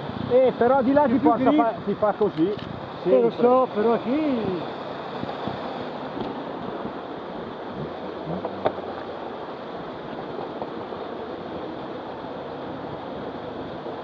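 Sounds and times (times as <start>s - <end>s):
waterfall rushing: 0.4s - 14.0s.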